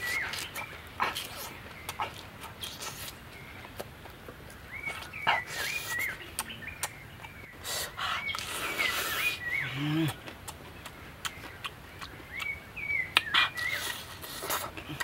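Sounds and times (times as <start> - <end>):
person chewing with open mouth: 0.0 - 15.0.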